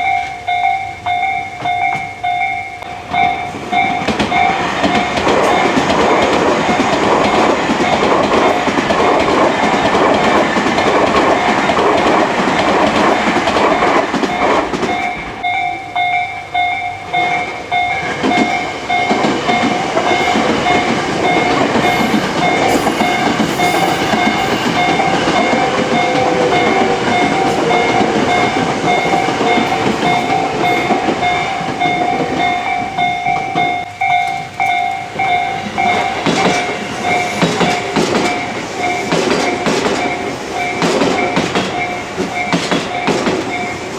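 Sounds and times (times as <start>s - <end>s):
crossing warning bell ringing: 0.0s - 43.9s
train wheels clattering on rails: 0.0s - 43.9s.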